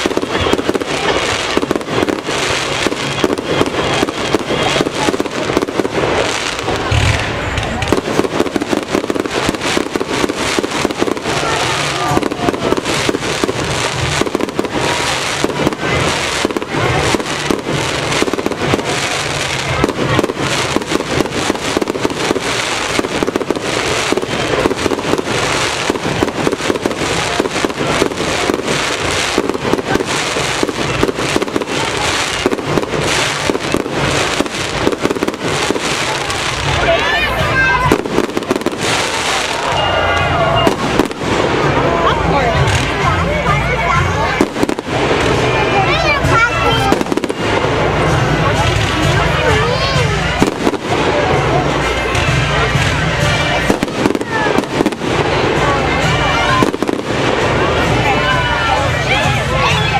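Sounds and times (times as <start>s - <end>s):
fireworks crackling pops: 0.0s - 59.9s.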